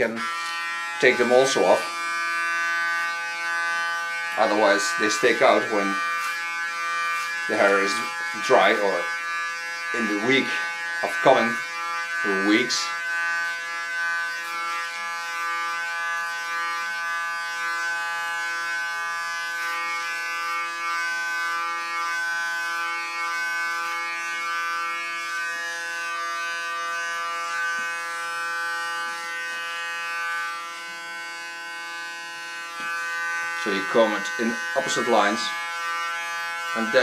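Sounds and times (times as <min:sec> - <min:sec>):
electric hair clipper buzzing: 0:00.0 - 0:37.0.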